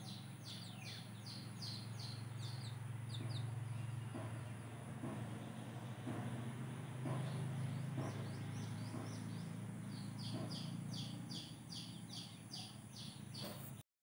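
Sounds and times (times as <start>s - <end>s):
baby chicks peeping: 0.0s - 13.8s
steady low hum: 0.0s - 13.8s.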